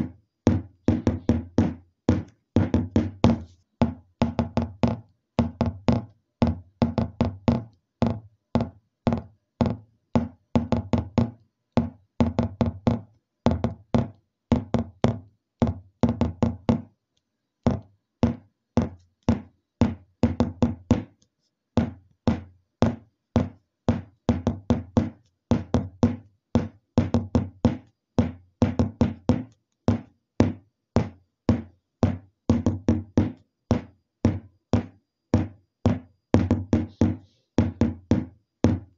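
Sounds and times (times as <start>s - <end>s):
rapid regular knocks: 0.0s - 17.0s, 17.6s - 21.2s, 21.8s - 38.9s.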